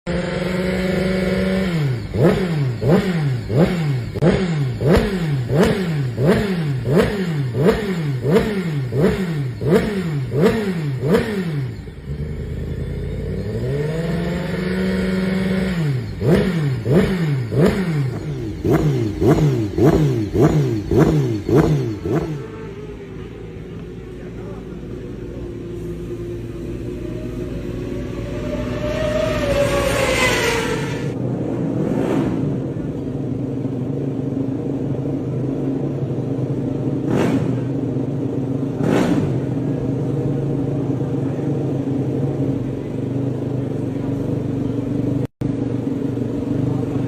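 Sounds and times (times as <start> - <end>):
motorcycle engine revving: 0.1 - 47.0.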